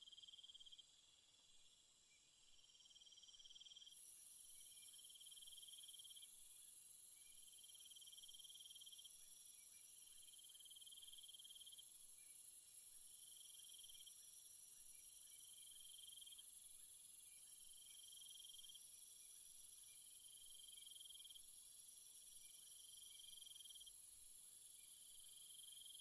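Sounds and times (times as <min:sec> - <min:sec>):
high insect hiss: 0:00.0 - 0:26.0
insect pulsing trill: 0:02.6 - 0:26.0.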